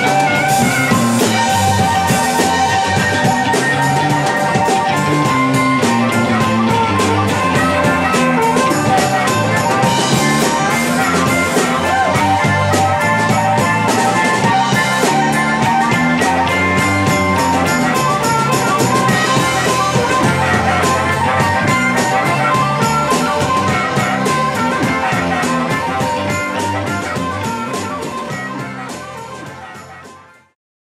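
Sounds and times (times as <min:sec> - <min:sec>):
drum kit steady beat: 0:00.0 - 0:30.4
guitar: 0:00.0 - 0:30.6.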